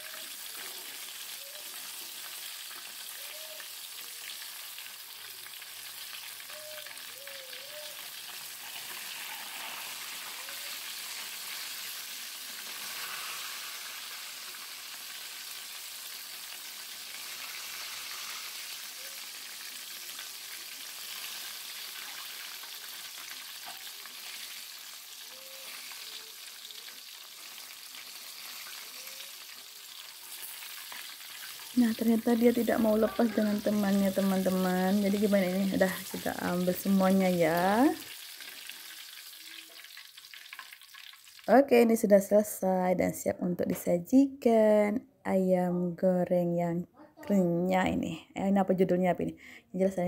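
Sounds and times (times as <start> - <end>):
chicken sizzling in hot oil: 0.0 - 41.7.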